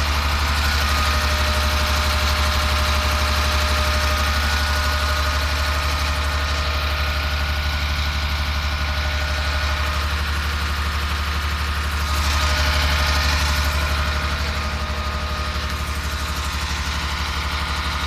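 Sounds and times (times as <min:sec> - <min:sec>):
truck diesel engine idling: 0:00.0 - 0:18.0.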